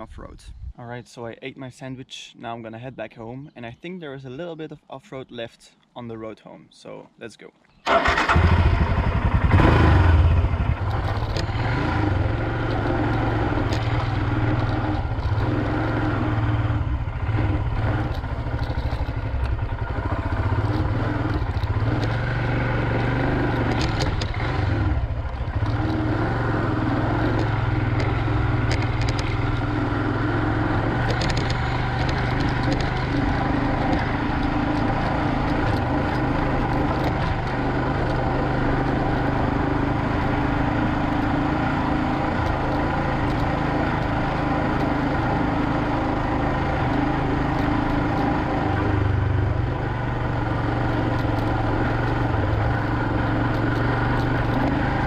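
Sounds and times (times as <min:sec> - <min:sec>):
motorcycle engine running: 0:07.9 - 0:55.0.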